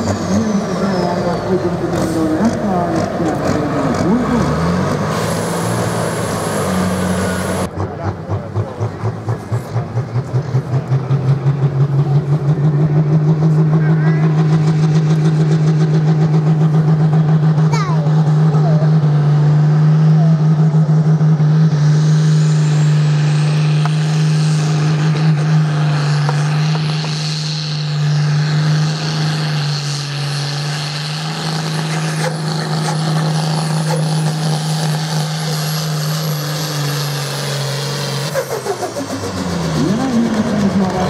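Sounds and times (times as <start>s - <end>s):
tractor engine revving high: 0.0s - 41.0s.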